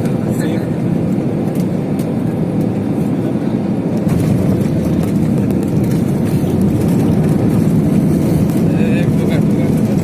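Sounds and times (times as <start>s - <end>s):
aeroplane engines rumbling: 0.0s - 10.0s.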